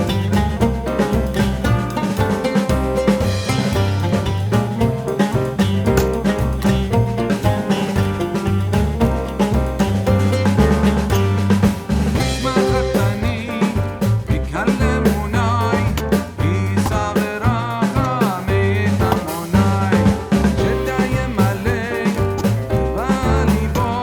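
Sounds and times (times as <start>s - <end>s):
background music with drums: 0.0s - 24.0s.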